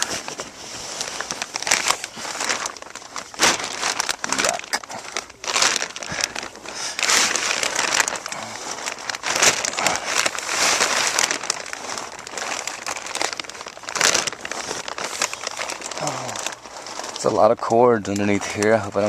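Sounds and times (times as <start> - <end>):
plastic sheeting crinkling: 0.0 - 19.0.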